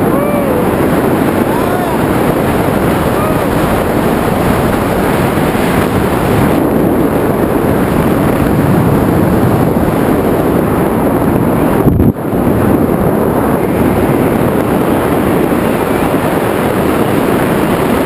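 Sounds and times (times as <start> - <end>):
wind roaring: 0.0 - 18.0.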